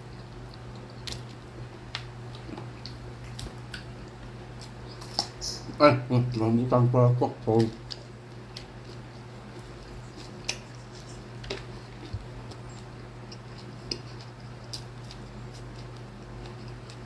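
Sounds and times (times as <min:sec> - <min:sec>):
person chewing: 0:00.0 - 0:06.7, 0:07.4 - 0:17.0
steady low hum: 0:00.0 - 0:17.0.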